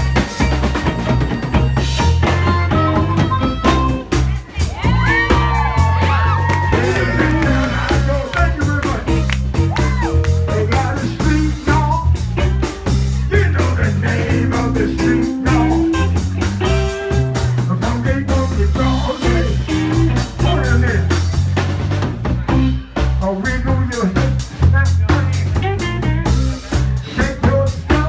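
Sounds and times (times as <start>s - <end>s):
bass line: 0.0s - 28.0s
live band playing upbeat groove: 0.0s - 28.0s.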